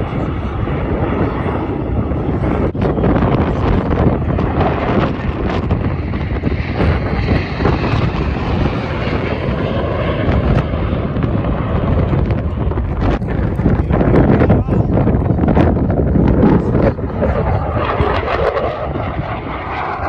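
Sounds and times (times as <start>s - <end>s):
aircraft engine flying over: 0.0s - 20.0s
wind buffeting microphone: 0.0s - 20.0s.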